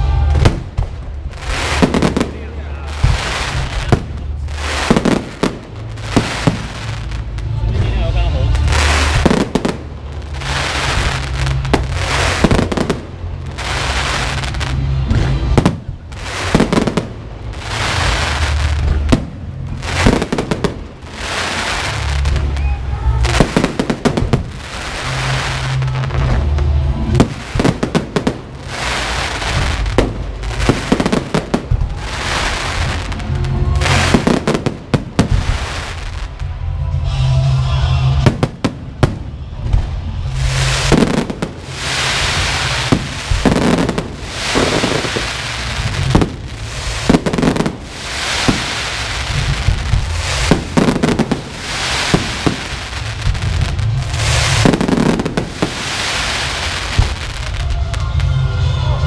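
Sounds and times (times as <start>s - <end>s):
firecrackers crackling: 0.0s - 59.0s
fireworks bangs: 0.0s - 59.0s
music: 0.0s - 59.0s.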